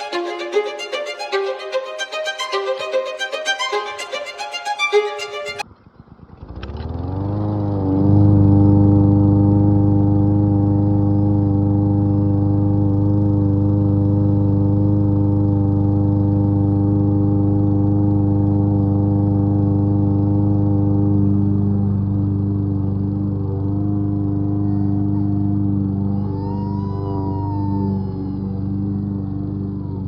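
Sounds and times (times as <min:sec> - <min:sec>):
lawn mower engine running: 0:00.0 - 0:26.4, 0:28.1 - 0:30.0.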